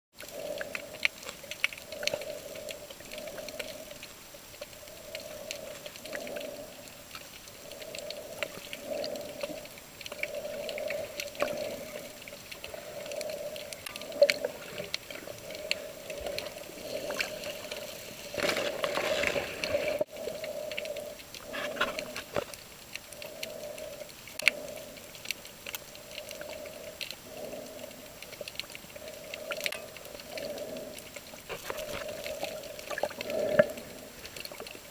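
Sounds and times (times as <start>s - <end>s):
muffled underwater hum: 0.3s - 34.7s.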